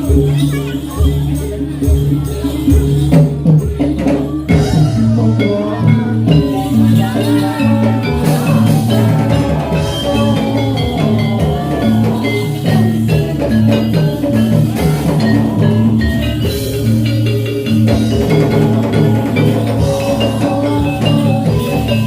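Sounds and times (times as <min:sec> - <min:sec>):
metallophones playing melody: 0:00.0 - 0:22.0
steady drum beat: 0:00.0 - 0:22.0.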